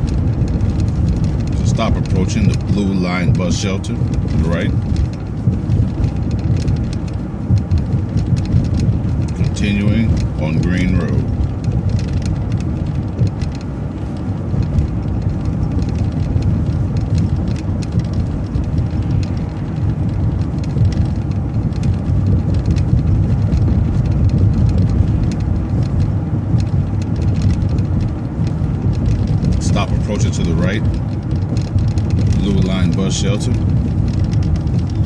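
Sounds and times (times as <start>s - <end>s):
bus engine rumble: 0.0s - 35.0s
light rattles: 0.0s - 35.0s.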